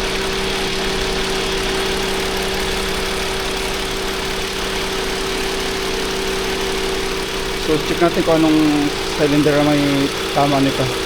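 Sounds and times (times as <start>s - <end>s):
car engine idling rough: 0.0s - 11.0s.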